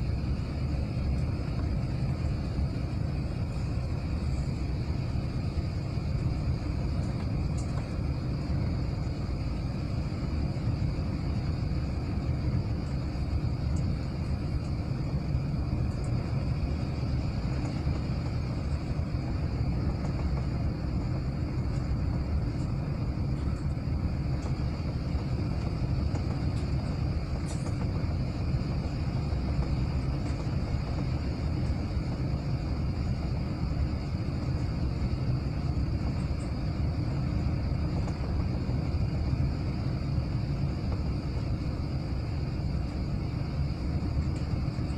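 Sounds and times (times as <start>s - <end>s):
low rumble of engines and airflow: 0.0s - 44.9s
thin high whine: 0.0s - 44.9s.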